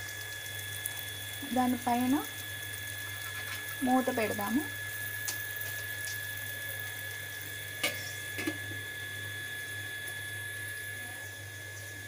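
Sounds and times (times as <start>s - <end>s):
eggs and onions sizzling in oil: 0.0s - 12.0s.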